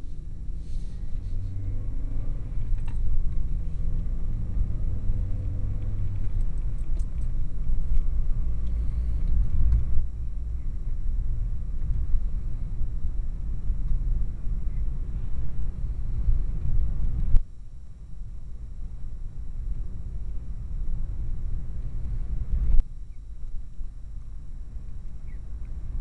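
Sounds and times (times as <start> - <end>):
car engine and tyre rumble: 0.0 - 26.0
engine hum: 0.0 - 26.0.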